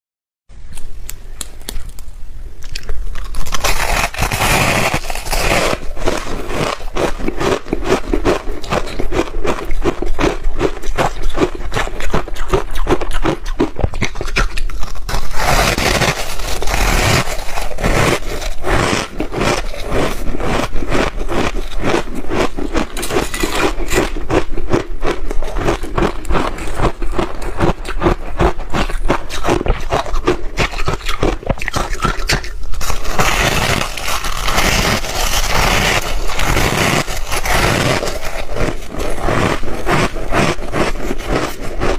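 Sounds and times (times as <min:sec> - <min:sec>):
ice being chewed: 0:02.6 - 0:41.9.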